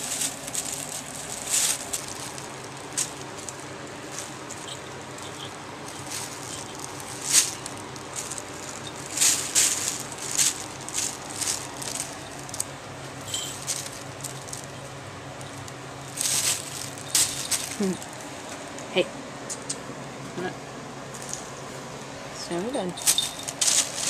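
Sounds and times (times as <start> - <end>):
plastic bag crinkling: 0.0 - 18.9, 23.0 - 24.0
steady low hum: 0.0 - 24.0.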